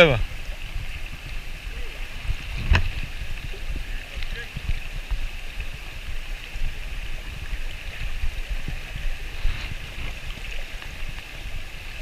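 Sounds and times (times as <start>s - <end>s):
river water babbling over stones: 0.0s - 12.0s.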